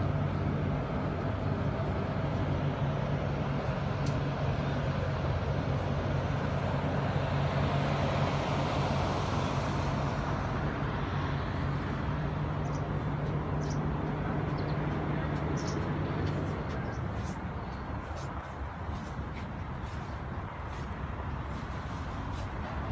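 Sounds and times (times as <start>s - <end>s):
city traffic noise: 0.0s - 22.9s.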